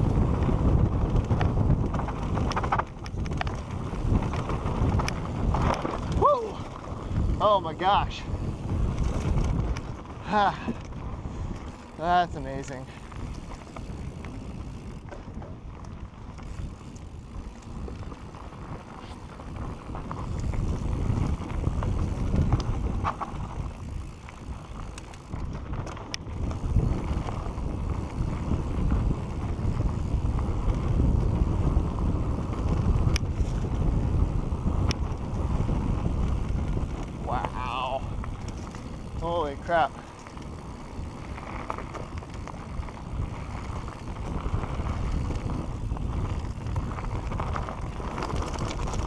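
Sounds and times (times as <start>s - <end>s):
bike clicks and rattles: 0.0s - 49.0s
mountain bike tyres rumbling: 0.0s - 49.0s
wind buffeting microphone: 0.0s - 49.0s.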